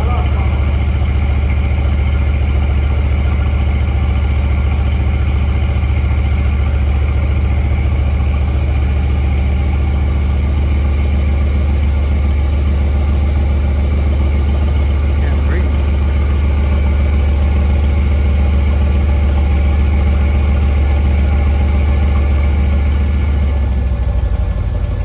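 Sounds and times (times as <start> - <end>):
car engine deep drone: 0.0 - 25.0.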